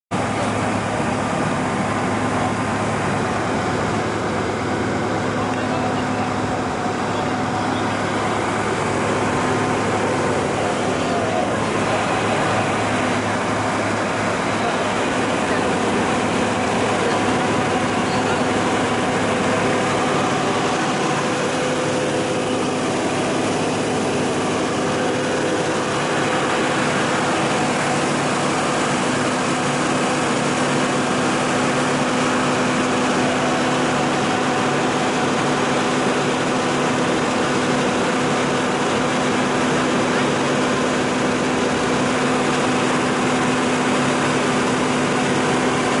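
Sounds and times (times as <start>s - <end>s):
truck engine running: 0.1s - 46.0s.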